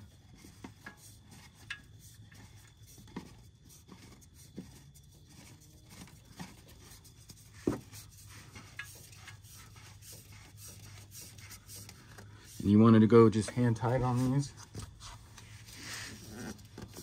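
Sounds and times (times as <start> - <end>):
filter canister rubbing and clicking: 0.4 - 17.0.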